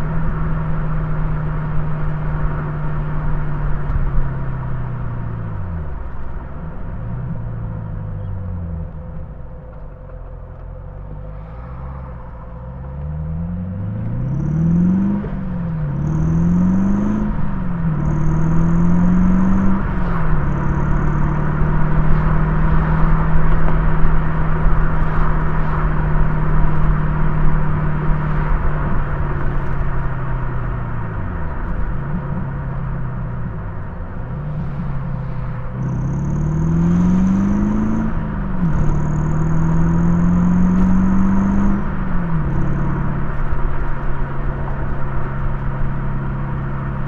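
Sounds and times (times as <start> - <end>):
car engine accelerating: 0.0 - 47.0.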